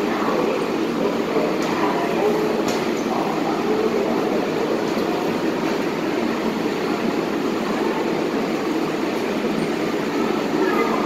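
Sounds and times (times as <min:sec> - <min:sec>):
subway train equipment humming: 0:00.0 - 0:11.0.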